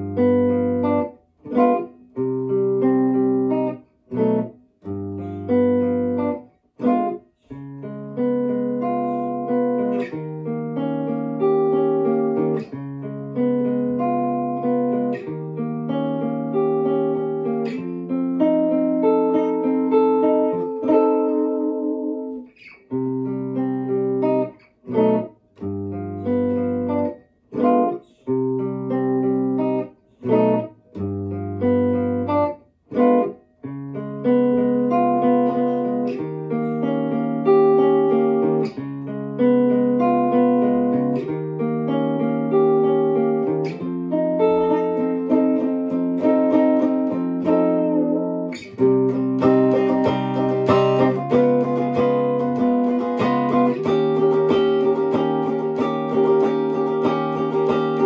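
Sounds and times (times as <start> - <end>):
electric guitar chords: 0.0 - 58.0.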